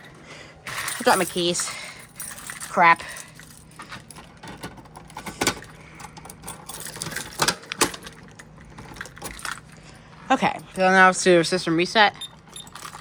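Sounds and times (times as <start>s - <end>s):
keys jangling: 0.0s - 10.9s, 12.1s - 13.0s.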